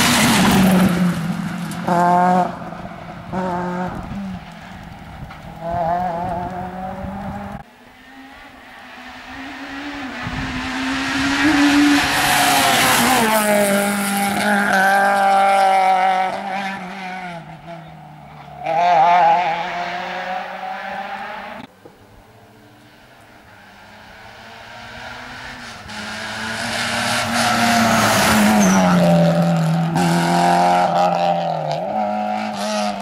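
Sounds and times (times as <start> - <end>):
rally car engine passing: 0.0 - 21.7, 22.3 - 33.0.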